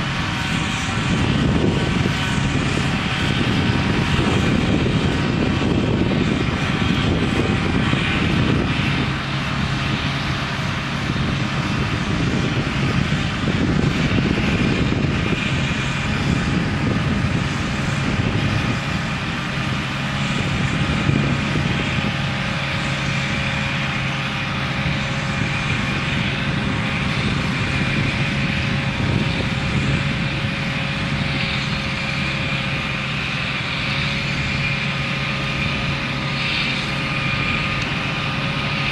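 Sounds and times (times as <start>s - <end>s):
bulldozer diesel engine running: 0.0s - 38.9s
thin high whine: 0.0s - 38.9s.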